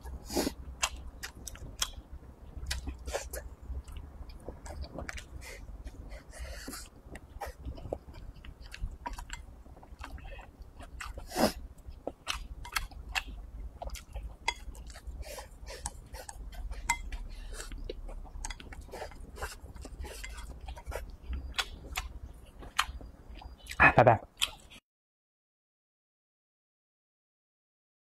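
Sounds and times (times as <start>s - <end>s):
person chewing: 0.0s - 24.8s.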